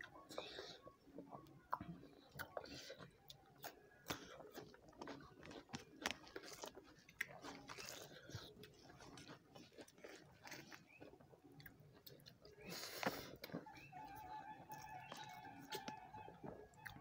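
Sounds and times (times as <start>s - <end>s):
chewing and crisp bites: 0.0s - 17.0s.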